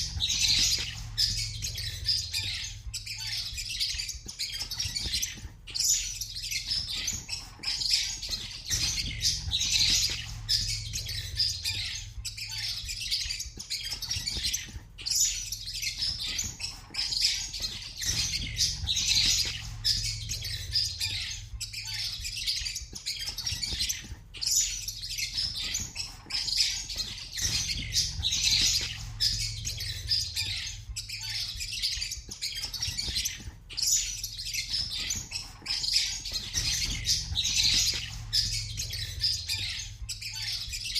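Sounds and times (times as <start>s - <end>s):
pet birds chirping and squawking: 0.0s - 40.9s.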